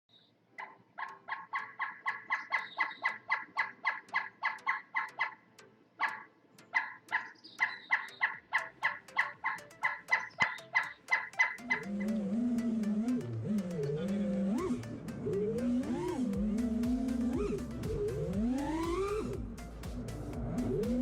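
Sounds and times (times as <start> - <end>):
woodpecker calling sharp ringing notes: 0.2 - 5.4, 6.0 - 19.4.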